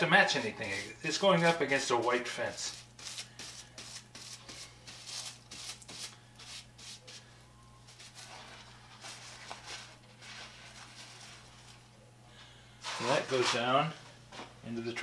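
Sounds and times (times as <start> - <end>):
paintbrush scraping paper: 0.0 - 11.8, 12.8 - 13.8
steady low hum: 0.0 - 15.0.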